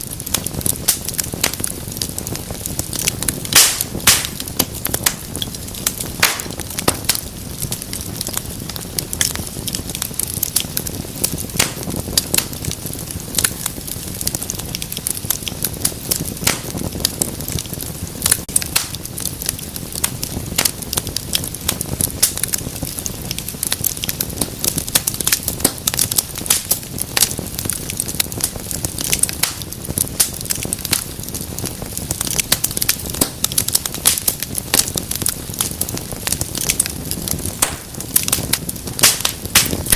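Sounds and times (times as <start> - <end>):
rush of flame: 0.0 - 39.9
wood fire crackling and popping: 0.0 - 39.9.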